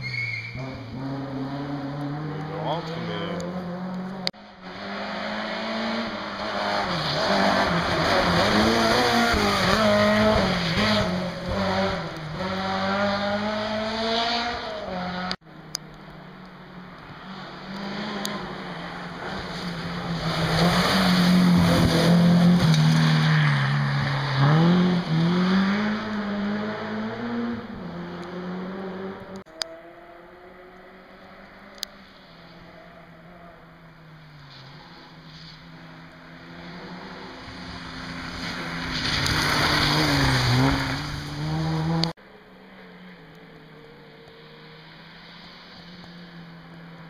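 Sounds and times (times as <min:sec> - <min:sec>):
rally car approaching and accelerating: 0:00.0 - 0:47.0
rally car engine revving: 0:00.5 - 0:15.4, 0:17.3 - 0:33.6, 0:34.5 - 0:42.2.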